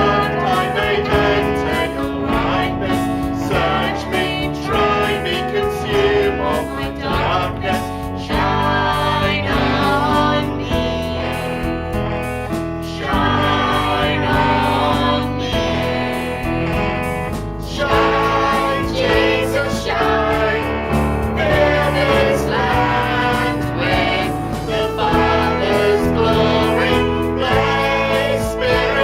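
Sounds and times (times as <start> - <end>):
group of voices singing: 0.0 - 29.0
instrumental accompaniment: 0.0 - 29.0.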